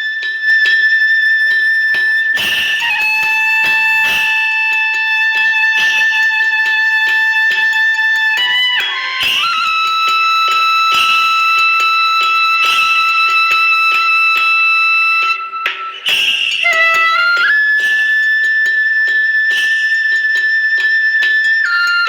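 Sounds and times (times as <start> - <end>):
music with high held melody and beat: 0.0 - 22.0.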